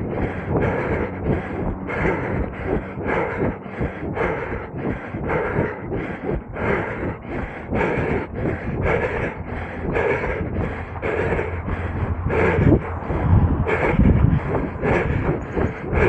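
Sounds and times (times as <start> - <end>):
runner breathing: 0.0 - 16.0.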